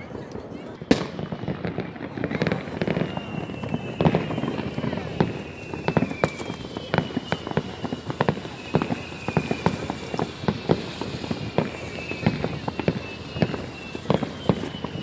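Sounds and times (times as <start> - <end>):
fireworks bangs and cracks: 0.0 - 15.0
faint high whistle: 0.8 - 15.0.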